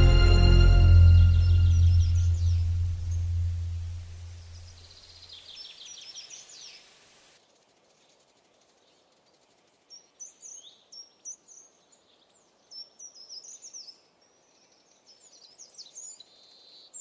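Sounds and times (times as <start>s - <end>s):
faint steady hiss: 0.0s - 17.0s
songbirds chirping: 0.0s - 17.0s.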